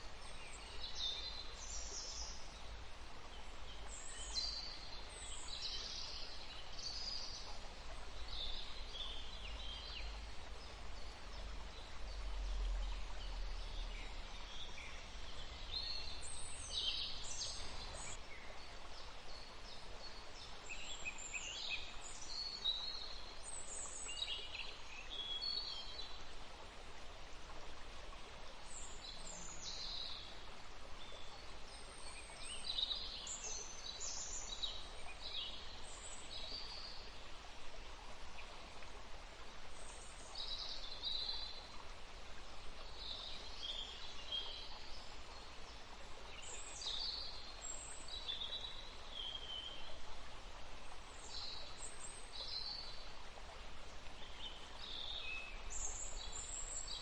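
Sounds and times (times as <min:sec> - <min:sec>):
outdoor ambience hiss: 0:00.0 - 0:57.0.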